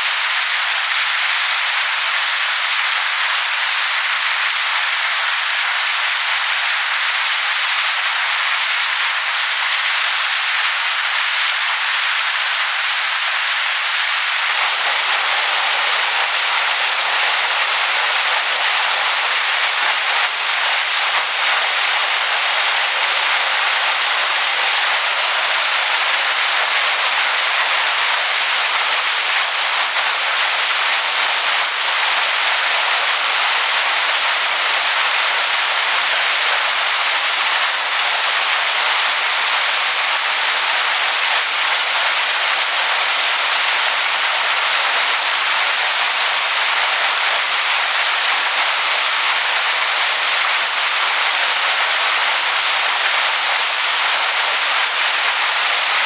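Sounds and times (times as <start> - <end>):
waterfall rushing over stones: 0.0 - 56.0.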